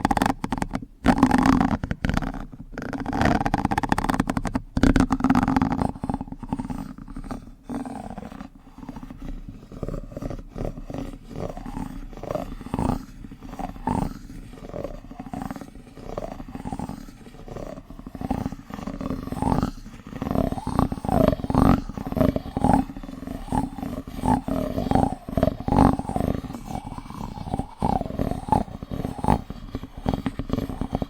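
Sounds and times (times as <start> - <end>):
muffled rubbing on microphone: 0.0 - 31.0.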